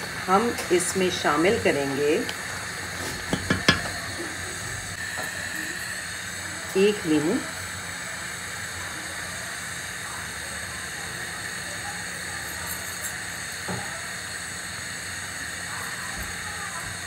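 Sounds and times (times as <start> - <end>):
pot boiling with bubbling hiss: 0.0 - 17.0.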